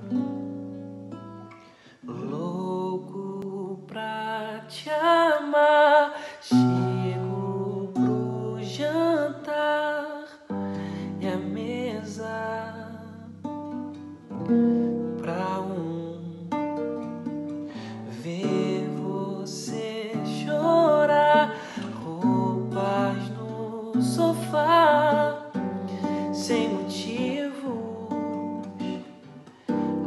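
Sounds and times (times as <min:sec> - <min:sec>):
acoustic guitar playing chords: 0:00.0 - 0:30.0
man singing: 0:02.0 - 0:13.4, 0:15.2 - 0:16.7, 0:17.8 - 0:29.2.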